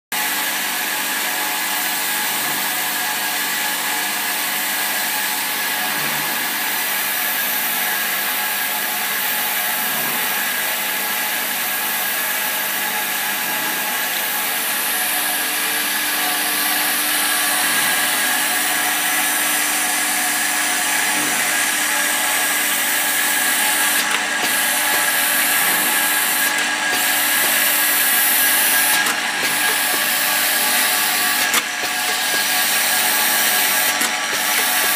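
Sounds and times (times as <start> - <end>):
machine whirring and humming: 0.2 - 34.9.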